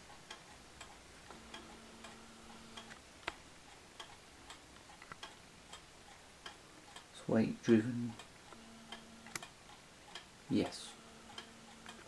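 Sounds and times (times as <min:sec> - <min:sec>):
pendulum wall clock ticking: 0:00.0 - 0:12.0.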